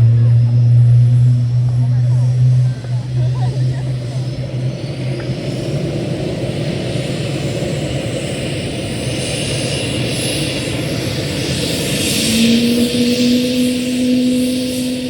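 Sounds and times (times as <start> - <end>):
helicopter rotor beating: 0.0 - 15.0
high turbine whine: 0.0 - 15.0.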